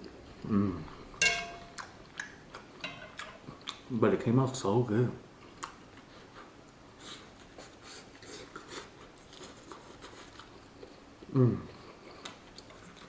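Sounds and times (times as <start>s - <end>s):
faint chewing: 0.0s - 4.0s, 5.4s - 13.0s.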